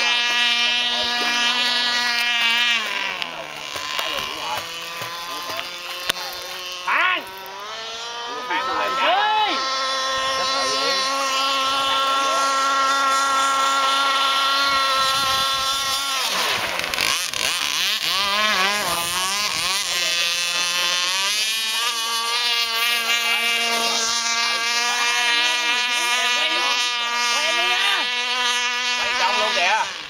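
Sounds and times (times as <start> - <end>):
model speedboat motor: 0.0 - 30.0.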